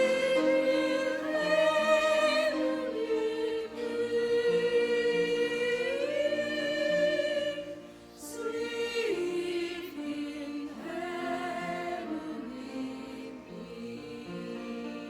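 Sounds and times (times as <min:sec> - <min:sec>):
vocal ensemble singing a hymn: 0:00.0 - 0:15.0.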